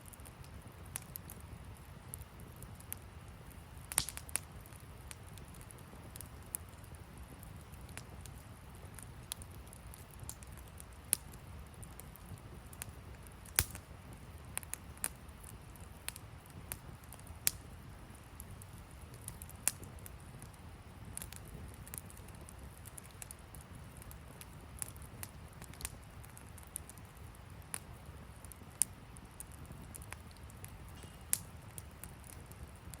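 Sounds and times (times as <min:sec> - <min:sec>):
sharp pops from fire: 0:00.0 - 0:33.0
wood fire crackling: 0:00.0 - 0:33.0.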